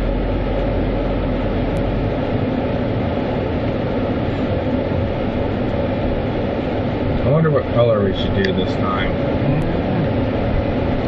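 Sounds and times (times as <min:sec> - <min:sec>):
car wash machinery rumbling: 0:00.0 - 0:11.0
low hum: 0:00.0 - 0:11.0.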